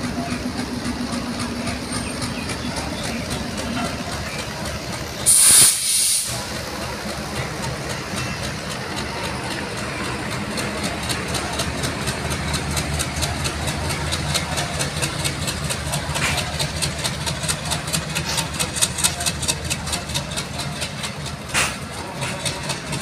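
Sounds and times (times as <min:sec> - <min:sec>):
wheels clicking over rail joints: 0:00.0 - 0:05.4, 0:06.3 - 0:23.0
diesel engine drone: 0:00.0 - 0:23.0.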